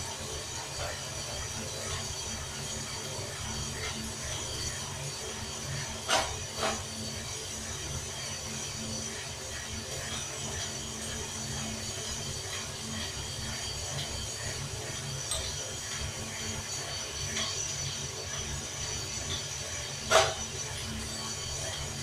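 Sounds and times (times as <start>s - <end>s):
coffee beans rattling in drum: 0.1s - 22.0s.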